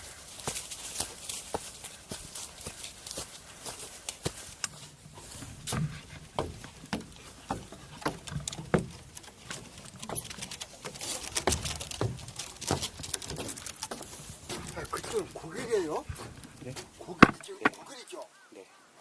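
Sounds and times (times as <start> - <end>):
footsteps crunching on trail: 0.0 - 17.8.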